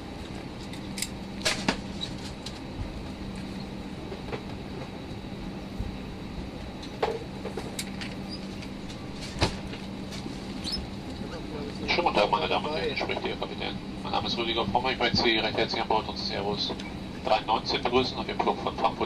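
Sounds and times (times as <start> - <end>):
air-conditioning hiss: 0.0 - 19.0
constant low hum: 0.0 - 19.0.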